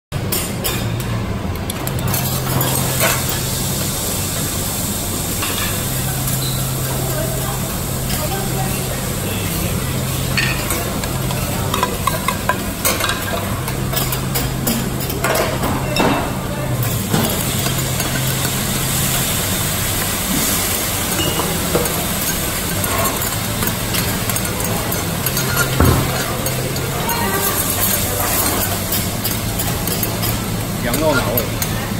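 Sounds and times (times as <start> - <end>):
oil sizzling on a griddle: 2.1 - 31.9.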